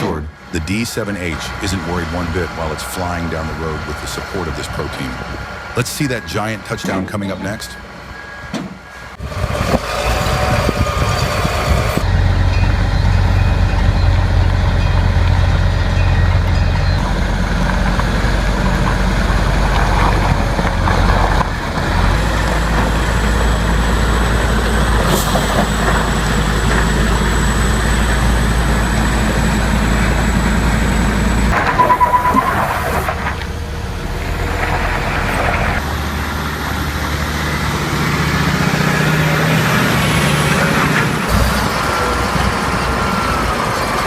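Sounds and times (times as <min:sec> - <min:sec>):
diesel truck and machinery engines: 0:00.0 - 0:44.0.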